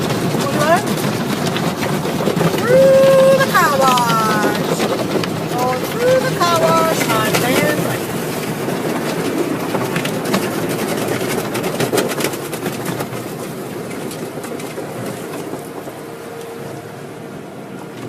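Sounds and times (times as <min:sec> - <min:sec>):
machinery clicks and rattles: 0:00.0 - 0:15.9
car wash water spraying: 0:00.0 - 0:17.7.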